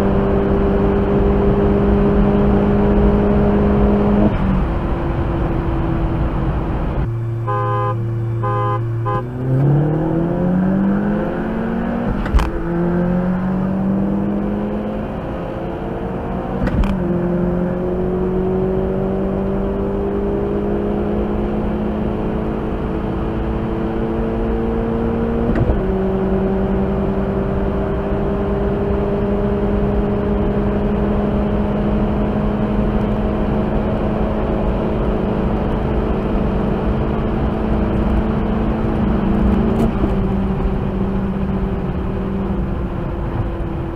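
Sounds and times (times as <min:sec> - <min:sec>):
car engine accelerating: 0:00.0 - 0:43.9
road and wind noise: 0:00.0 - 0:43.9.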